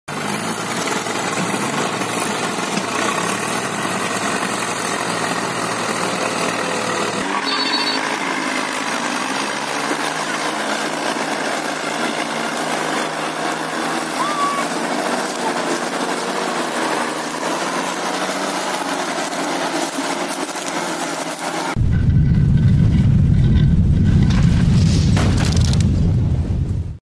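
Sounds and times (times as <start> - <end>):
tractor diesel engines under load: 0.1 - 24.5.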